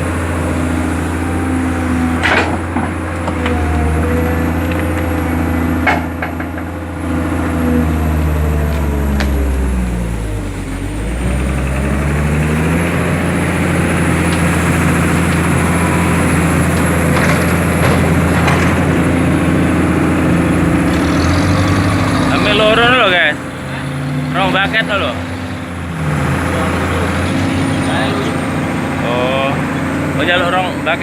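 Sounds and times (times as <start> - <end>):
heavy machinery engine running: 0.0 - 31.0.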